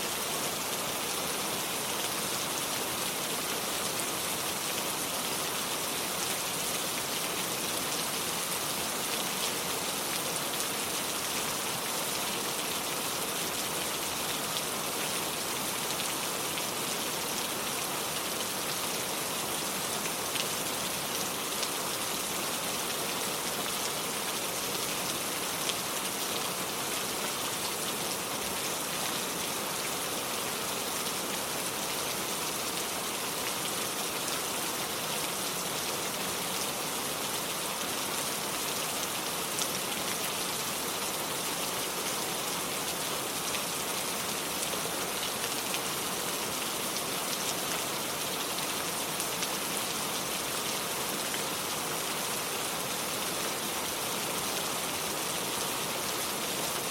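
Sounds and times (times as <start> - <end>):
rain on hard surfaces: 0.0 - 56.9.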